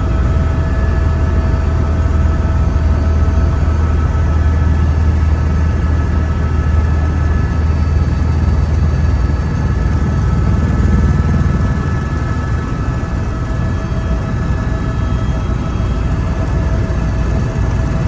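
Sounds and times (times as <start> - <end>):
helicopter cabin drone: 0.0 - 18.0.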